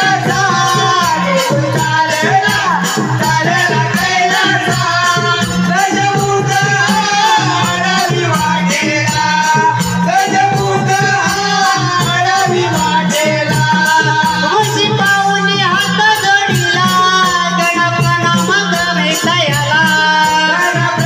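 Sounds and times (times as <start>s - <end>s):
fast jingling percussion beat: 0.0s - 21.0s.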